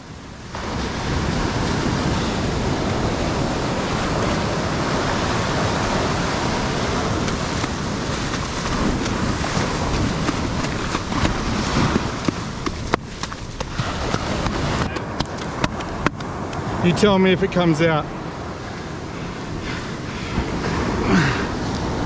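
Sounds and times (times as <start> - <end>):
surf washing up beach: 0.0 - 22.0
wind rumbling on microphone: 0.0 - 22.0.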